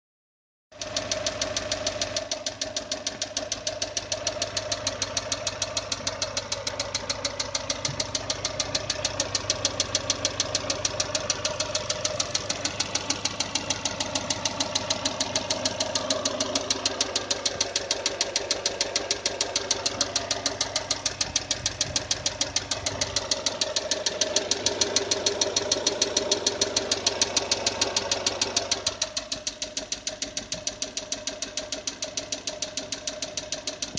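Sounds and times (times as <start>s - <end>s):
engine idling with rapid knock: 0.7s - 33.9s.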